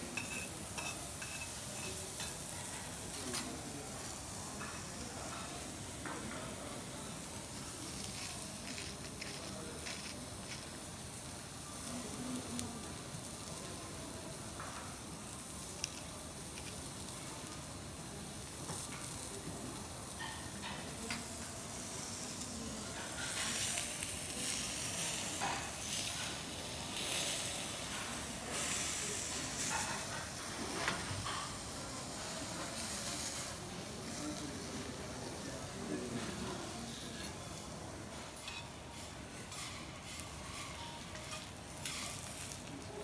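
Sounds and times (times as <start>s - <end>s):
steak sizzling on griddle: 0.0s - 43.0s.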